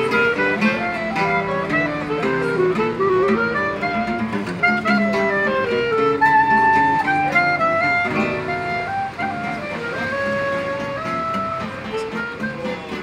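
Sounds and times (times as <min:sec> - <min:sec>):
clarinet melody: 0:00.0 - 0:13.0
plucked acoustic guitar: 0:00.0 - 0:13.0.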